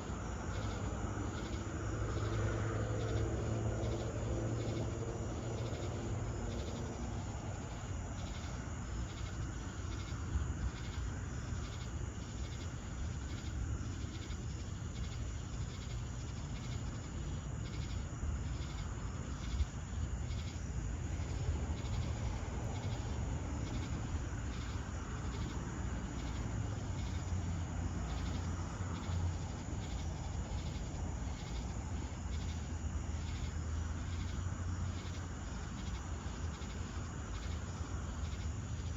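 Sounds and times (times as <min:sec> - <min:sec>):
crickets and insects chirring: 0:00.0 - 0:38.9.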